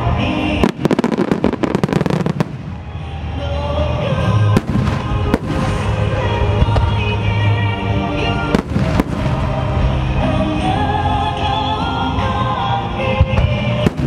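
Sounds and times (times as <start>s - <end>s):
song playing: 0.0s - 14.0s.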